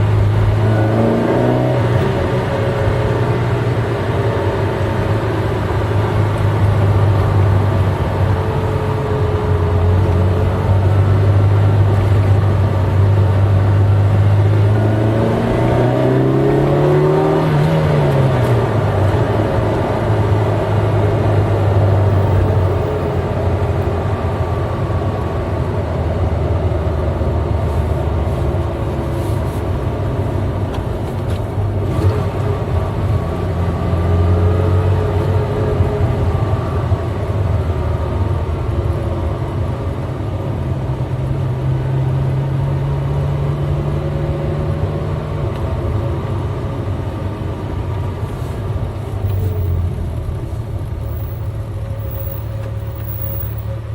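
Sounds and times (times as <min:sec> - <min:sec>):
car engine droning: 0:00.0 - 0:53.9.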